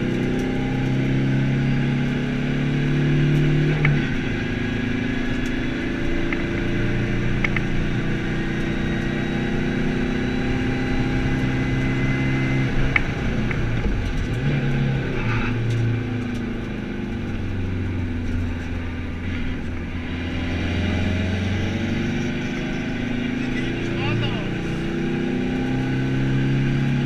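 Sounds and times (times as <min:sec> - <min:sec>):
rally car engine under load: 0:00.0 - 0:27.0.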